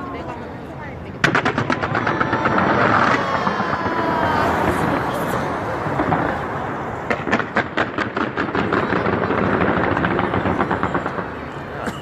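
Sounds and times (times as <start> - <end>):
fireworks crackling and bursting: 0.2 - 12.0.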